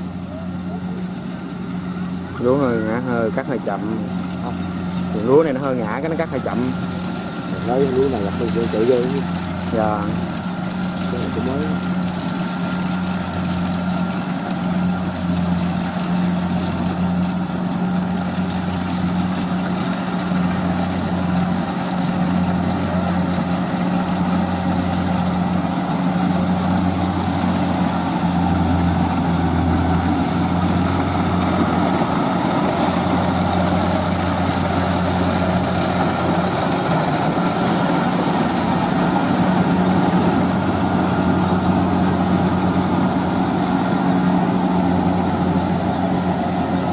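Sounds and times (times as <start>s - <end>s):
diesel engine droning: 0.0s - 46.9s
threshing machinery clatter: 2.4s - 46.9s.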